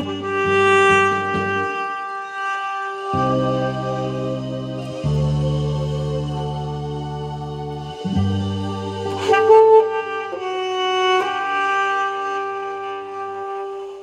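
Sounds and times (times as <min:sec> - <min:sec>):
instrumental backing track: 0:00.0 - 0:14.0
saxophone long held notes: 0:00.0 - 0:14.0.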